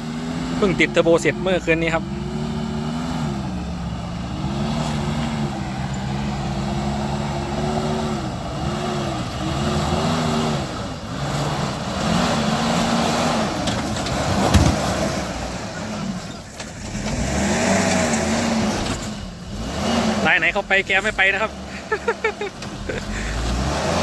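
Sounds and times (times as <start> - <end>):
engine revving under load: 0.0 - 24.0.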